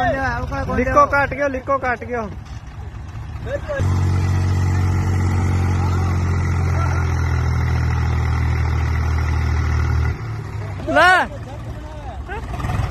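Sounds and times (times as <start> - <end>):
tractor diesel engine labouring: 0.0 - 12.9.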